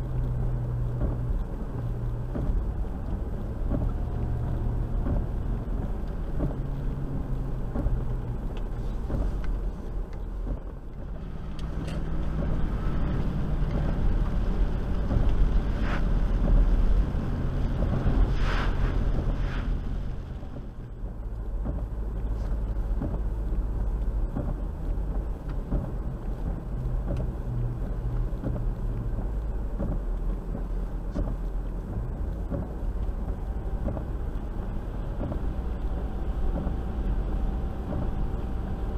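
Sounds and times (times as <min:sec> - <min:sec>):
car engine running: 0:00.0 - 0:38.9
tyres on wet road: 0:00.0 - 0:38.9.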